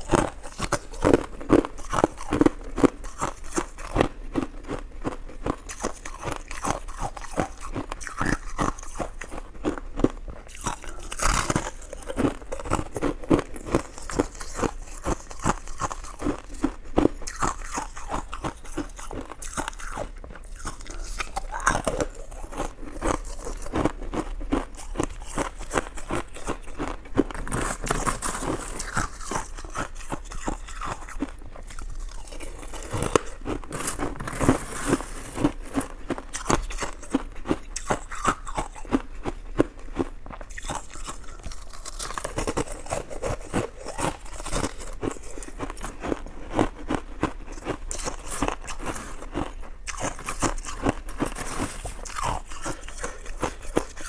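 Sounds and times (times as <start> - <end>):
wet chewing and mouth smacks: 0.0 - 34.3, 34.9 - 54.0.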